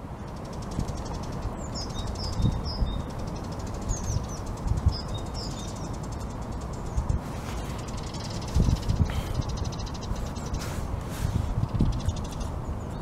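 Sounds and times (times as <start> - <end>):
outdoor background noise: 0.0 - 13.0
songbird chirping: 0.0 - 13.0.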